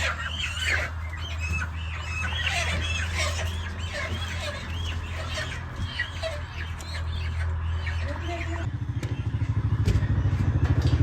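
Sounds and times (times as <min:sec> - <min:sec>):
chickens clucking: 0:00.0 - 0:10.1
steady low hum: 0:00.0 - 0:10.7.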